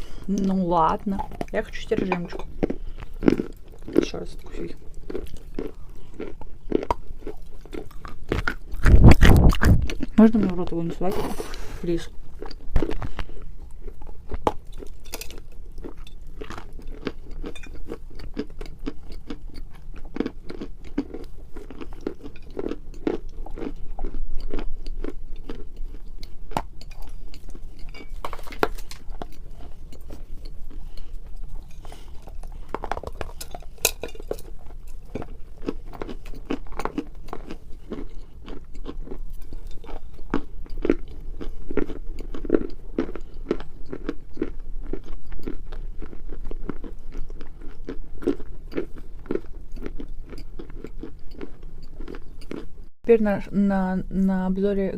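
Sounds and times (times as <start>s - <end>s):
chewing crunchy chalk stick: 1.1s - 52.8s.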